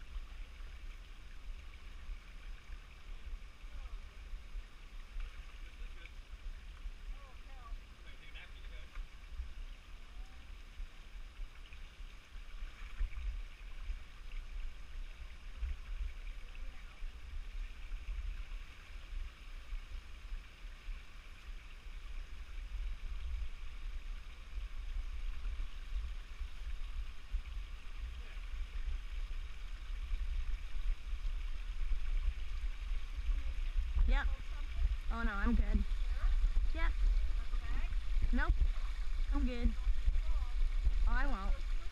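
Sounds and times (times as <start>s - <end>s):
low rumble on microphone: 0.0s - 41.9s
stream trickling over rocks: 0.0s - 41.9s.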